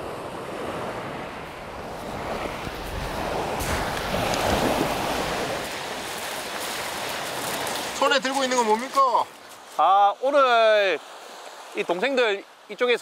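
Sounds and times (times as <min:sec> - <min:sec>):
waves washing on pebble beach: 0:00.0 - 0:13.0.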